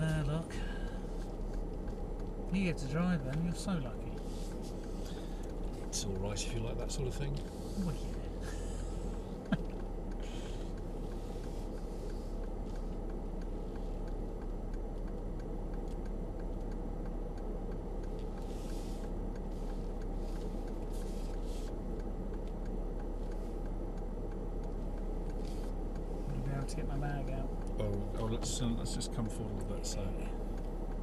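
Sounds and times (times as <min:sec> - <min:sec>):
car cabin hum: 0:00.0 - 0:31.0
faint even ticking: 0:00.0 - 0:31.0.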